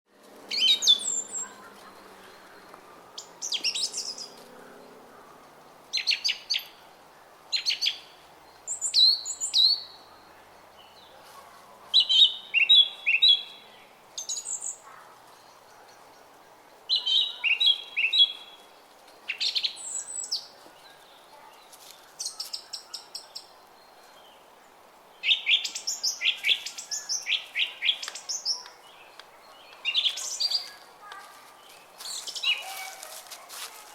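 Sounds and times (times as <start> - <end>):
songbirds chirping and trilling: 0.1 - 33.9.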